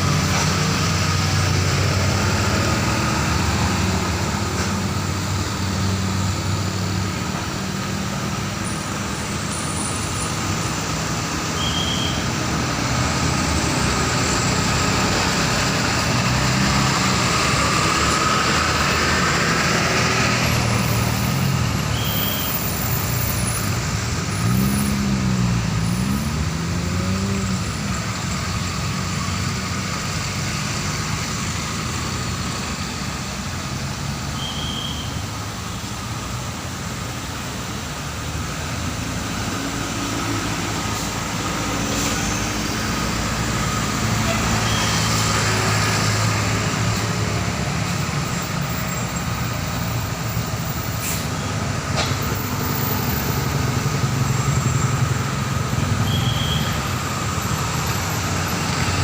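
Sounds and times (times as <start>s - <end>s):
continuous engine hum: 0.0s - 59.0s
heavy vehicles passing: 0.0s - 59.0s.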